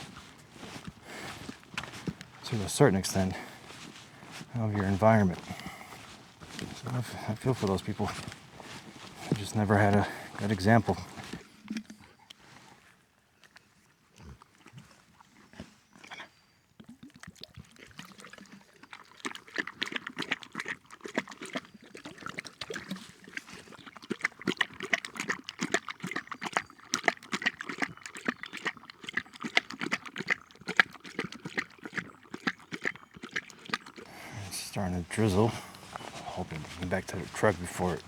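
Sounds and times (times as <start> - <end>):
dog lapping water: 0.0 - 12.2, 14.1 - 38.0.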